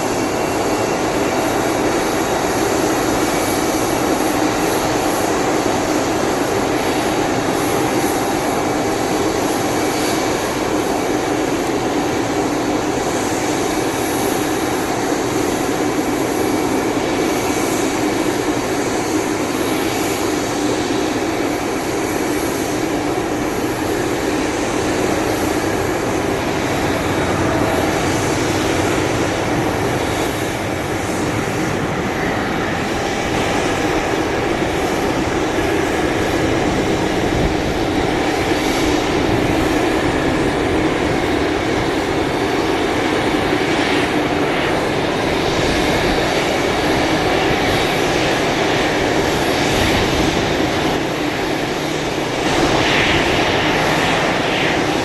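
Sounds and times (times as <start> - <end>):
engine drone: 0.0 - 55.0.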